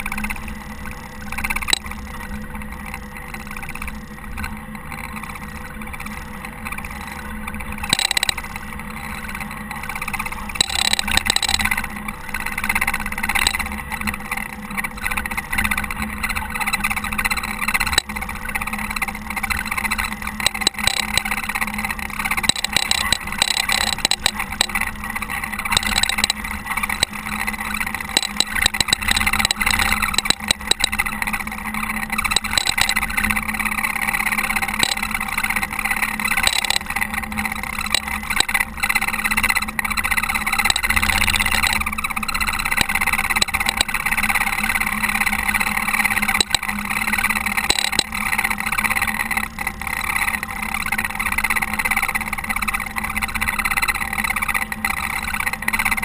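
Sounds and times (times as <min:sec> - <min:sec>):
telehandler engine running: 0:00.0 - 0:56.0.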